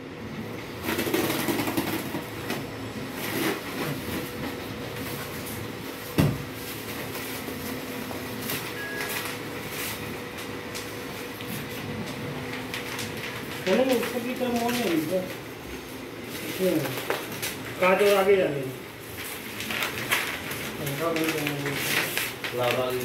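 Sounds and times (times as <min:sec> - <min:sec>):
plastic wrap crinkling: 0:03.1 - 0:23.0.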